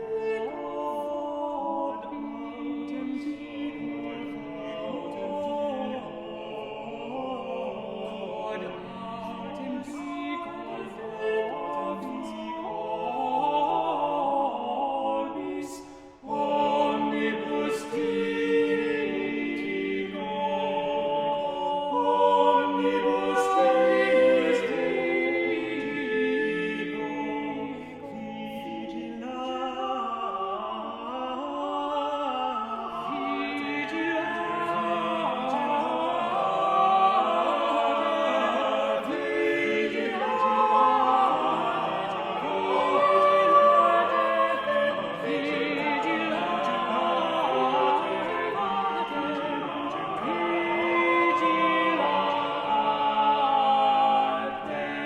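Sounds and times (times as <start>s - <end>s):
male vocal ensemble singing: 0.0s - 55.0s.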